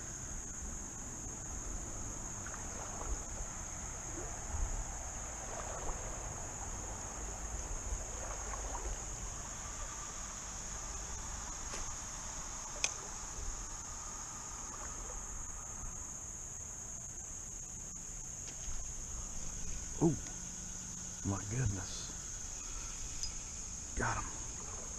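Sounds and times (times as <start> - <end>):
insects singing: 0.0 - 24.9.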